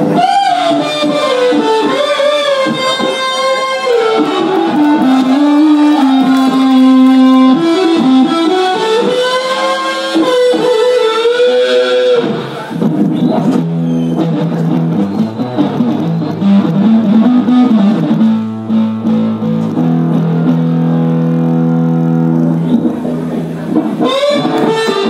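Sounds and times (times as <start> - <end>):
electric guitar melody: 0.0 - 25.0.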